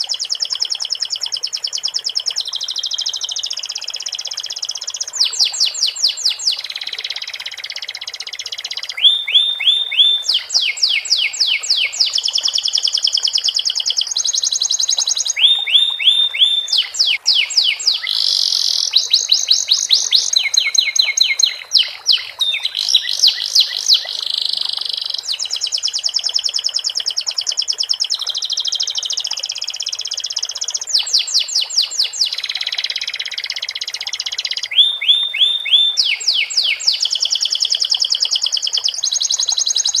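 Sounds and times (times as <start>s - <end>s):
canary singing fast trills: 0.0s - 40.0s.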